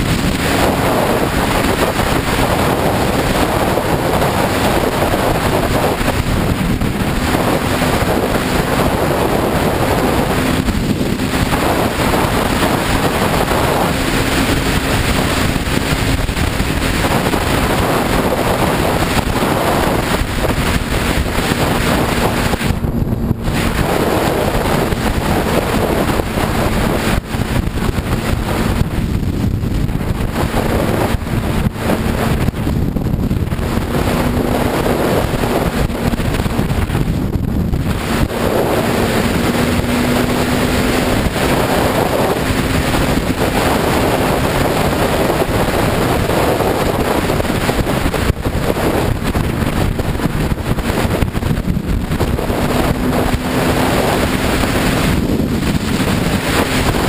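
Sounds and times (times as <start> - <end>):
motorcycle engine drone: 0.0 - 57.0
wind buffeting microphone: 0.0 - 57.0.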